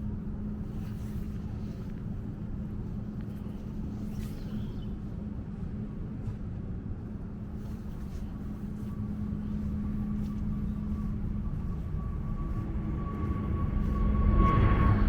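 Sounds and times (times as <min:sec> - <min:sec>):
low engine rumble with whine: 0:00.0 - 0:15.0.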